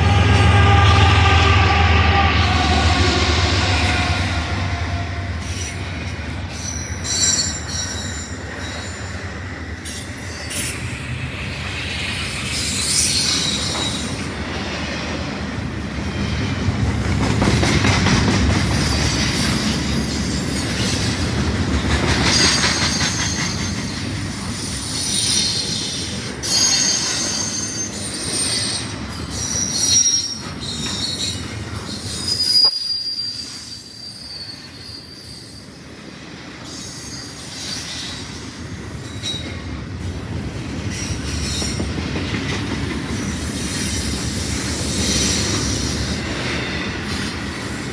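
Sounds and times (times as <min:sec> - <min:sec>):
freight train rumbling past: 0:00.0 - 0:47.9
train wheels squealing on rails: 0:00.0 - 0:47.9.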